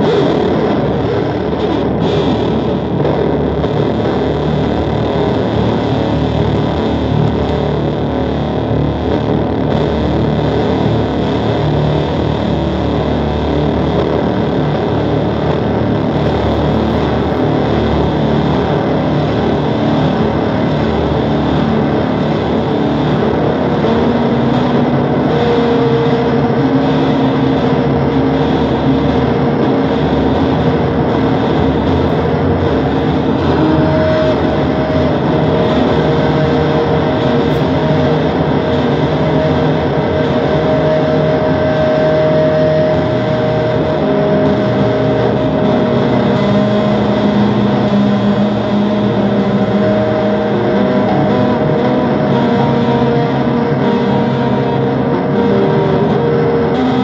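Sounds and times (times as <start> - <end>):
harsh noise music: 0.0 - 57.0.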